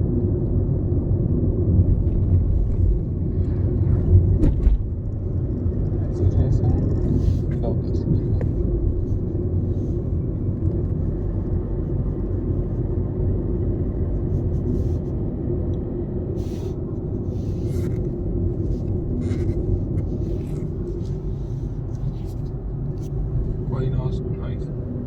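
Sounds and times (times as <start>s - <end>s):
road and engine rumble in car: 0.0s - 25.0s.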